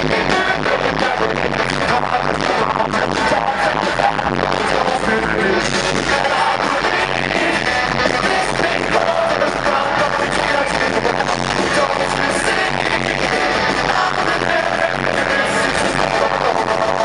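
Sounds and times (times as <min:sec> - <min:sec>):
live rock band through pa: 0:00.0 - 0:17.0.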